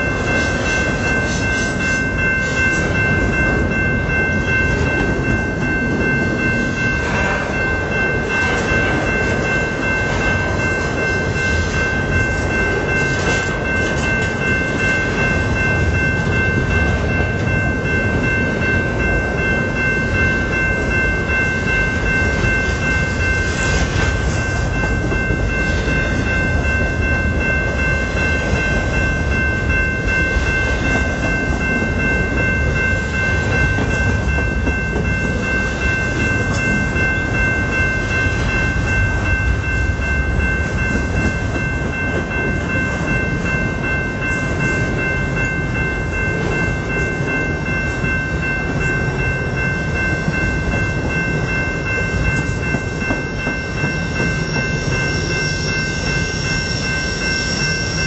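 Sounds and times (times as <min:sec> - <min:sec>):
crossing warning bell ringing: 0:00.0 - 0:58.0
freight train wheels on rail: 0:00.0 - 0:58.0.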